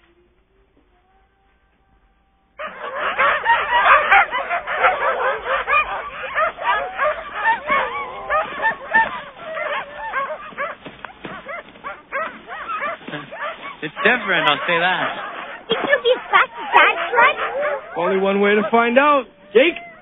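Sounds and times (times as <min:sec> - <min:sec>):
sled dogs barking and yelping: 0:00.0 - 0:20.0.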